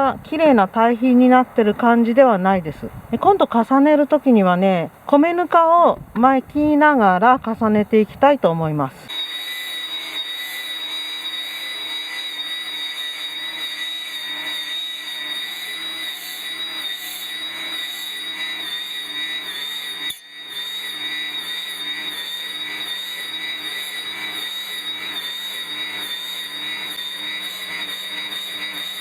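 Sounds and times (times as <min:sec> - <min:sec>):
electric brush cutter whining: 0:00.0 - 0:29.0.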